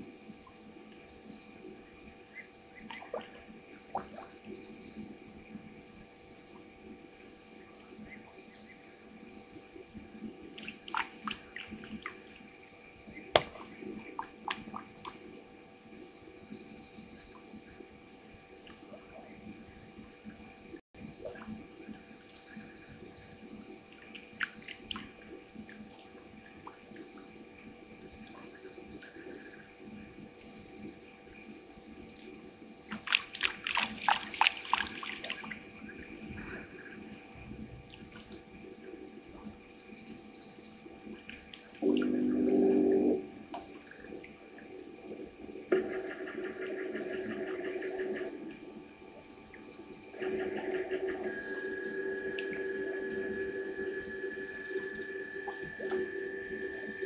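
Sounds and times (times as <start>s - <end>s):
crickets trilling: 0.0s - 57.0s
insect chirps: 0.0s - 57.0s.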